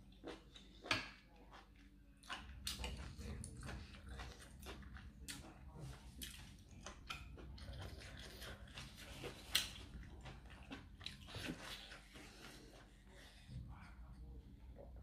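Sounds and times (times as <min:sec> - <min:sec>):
person chewing and crunching food: 0:00.0 - 0:15.0.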